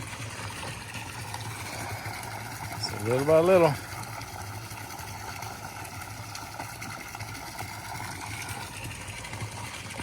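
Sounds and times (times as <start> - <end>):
hiss of moving water: 0.0 - 10.0
water pump humming: 0.0 - 10.0.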